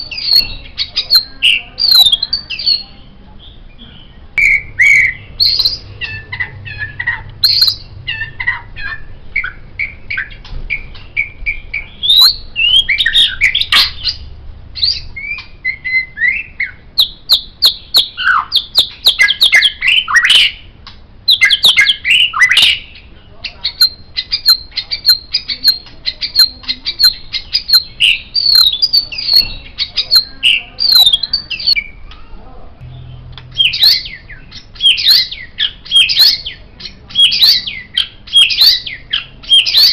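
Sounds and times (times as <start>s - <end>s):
songbird singing whistled trills: 0.0s - 3.8s, 4.4s - 20.7s, 21.3s - 32.0s, 32.9s - 39.9s.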